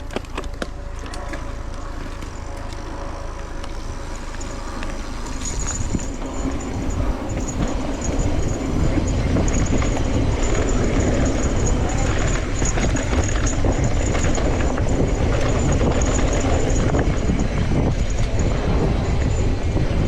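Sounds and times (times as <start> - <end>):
tyres rumbling on trail: 0.0 - 20.0
wind buffeting microphone: 0.0 - 20.0
thin high whine: 0.8 - 20.0.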